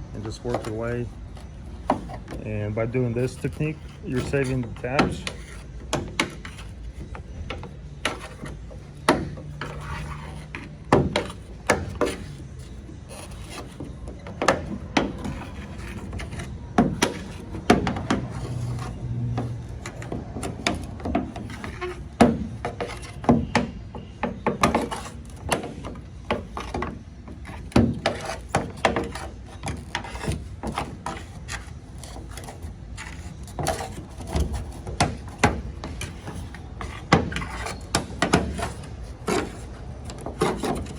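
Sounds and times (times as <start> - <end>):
plastic scraping and rubbing: 0.0 - 40.9.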